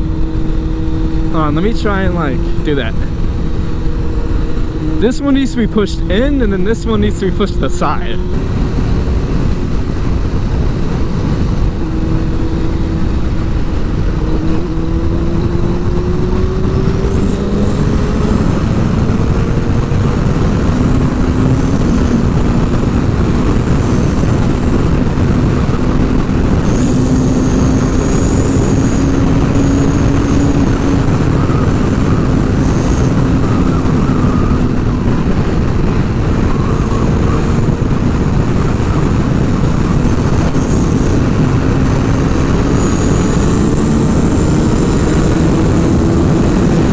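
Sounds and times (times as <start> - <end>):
motorcycle engine: 0.0 - 46.9
wind rushing over microphone: 0.0 - 46.9.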